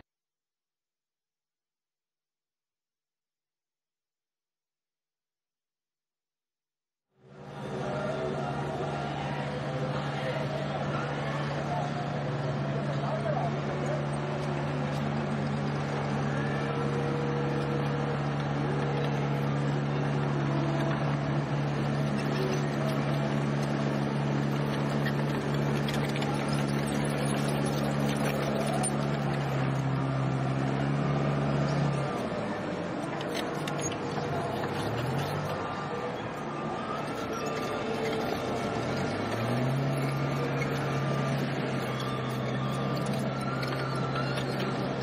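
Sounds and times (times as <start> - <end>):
engine running steadily: 7.2 - 45.0.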